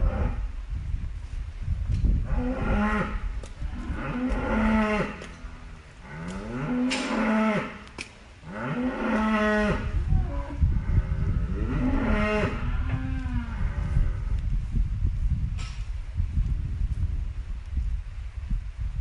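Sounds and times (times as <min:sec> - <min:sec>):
steady low rumble: 0:00.0 - 0:06.7, 0:09.7 - 0:19.0.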